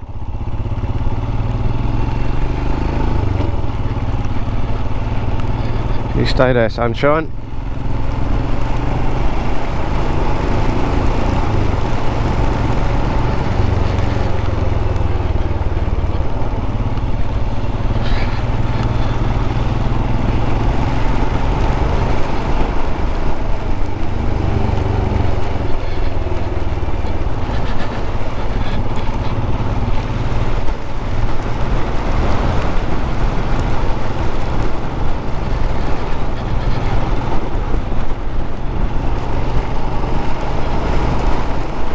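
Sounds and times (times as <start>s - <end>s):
motorcycle engine running: 0.0s - 41.9s
road noise: 0.0s - 41.9s.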